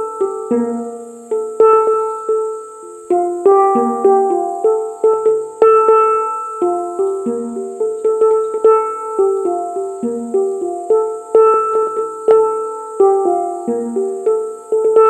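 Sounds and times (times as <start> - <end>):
melody of struck ringing notes: 0.0 - 15.0.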